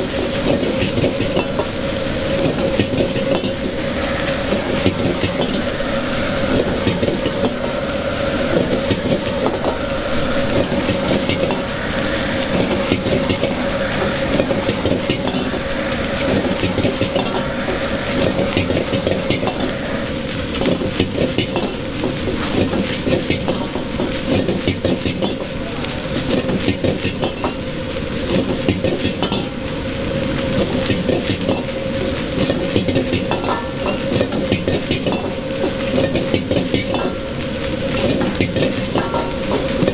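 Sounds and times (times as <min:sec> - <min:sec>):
metal utensil scraping a pan: 0:00.0 - 0:29.7, 0:30.4 - 0:39.9
rice sizzling in a wok: 0:00.0 - 0:39.9
steady hum: 0:00.0 - 0:39.9.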